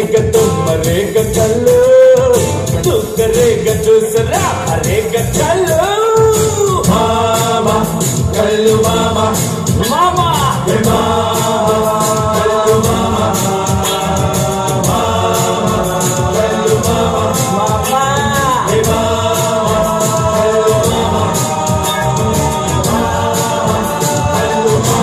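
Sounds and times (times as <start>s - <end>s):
dance music with singing: 0.0s - 25.0s.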